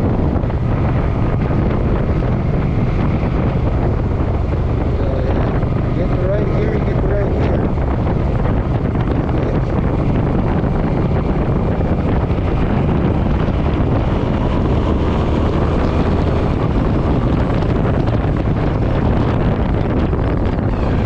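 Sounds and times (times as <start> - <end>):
motorcycle engine droning: 0.0 - 21.0
wind rushing over microphone: 0.0 - 21.0.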